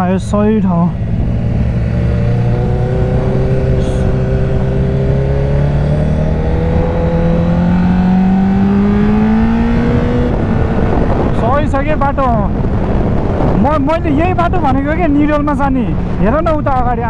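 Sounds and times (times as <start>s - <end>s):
motorcycle engine accelerating: 0.0s - 16.6s.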